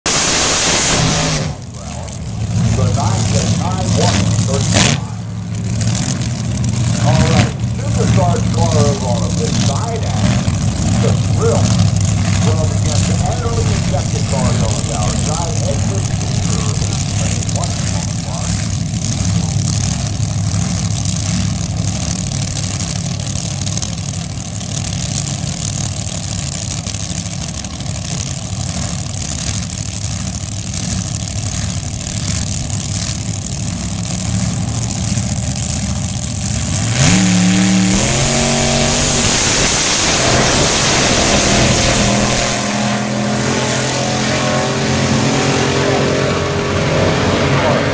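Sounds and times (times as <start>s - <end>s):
dragsters launching at full throttle: 0.0s - 47.9s
dragster engines idling: 0.1s - 43.5s.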